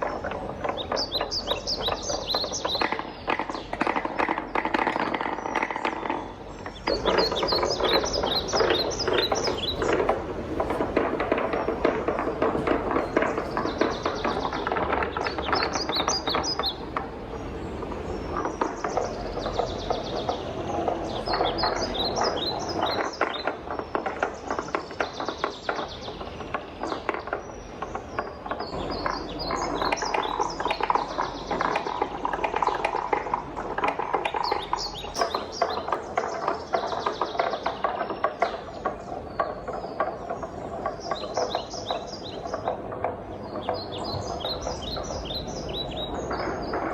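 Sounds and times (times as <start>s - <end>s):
wooden balls rolling and clattering: 0.0s - 46.9s.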